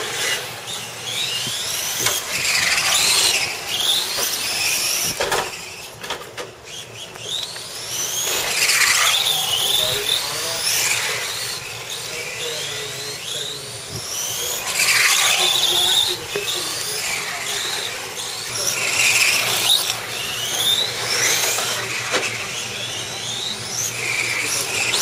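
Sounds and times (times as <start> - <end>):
rc car motors whining: 0.0 - 25.0.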